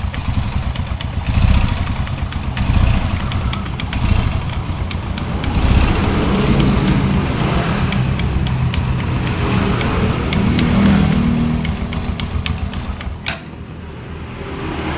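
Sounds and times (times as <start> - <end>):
clutch clicking: 0.0 - 14.2
motorcycle engine revving: 0.0 - 14.9.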